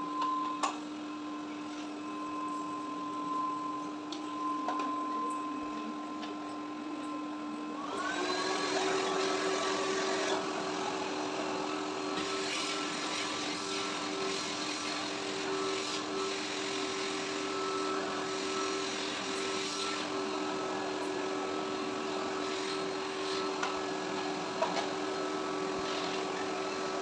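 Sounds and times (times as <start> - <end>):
vacuum cleaner motor whine: 0.0 - 27.0.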